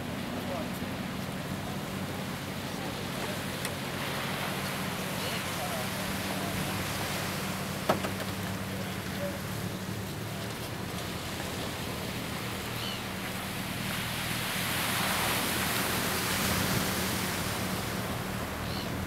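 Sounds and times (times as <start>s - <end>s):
low engine-like hum: 0.0s - 19.0s
outdoor wash of noise: 0.0s - 19.0s.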